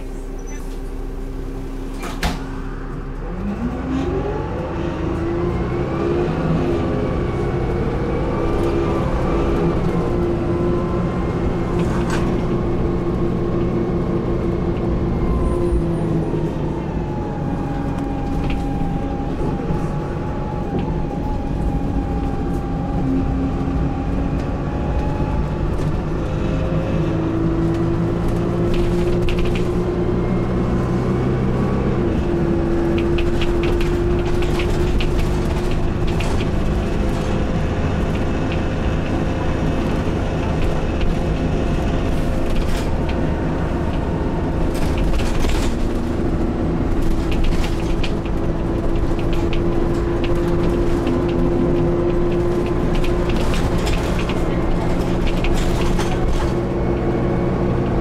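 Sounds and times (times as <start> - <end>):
bus diesel engine pulling away: 0.0 - 58.0.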